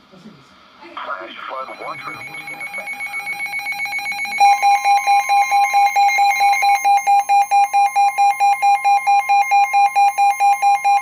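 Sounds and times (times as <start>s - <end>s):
electronic two-tone alarm beeping: 1.5s - 11.0s.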